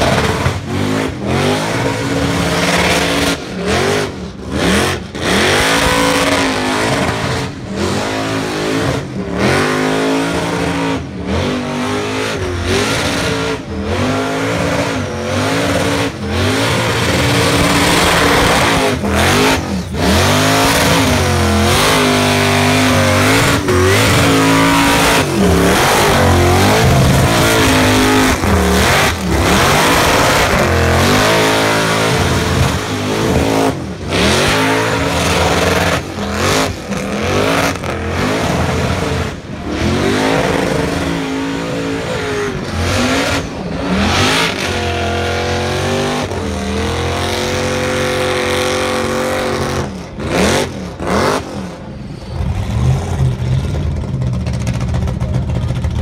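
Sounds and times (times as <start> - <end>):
supercharged engine revving hard: 0.0 - 54.1.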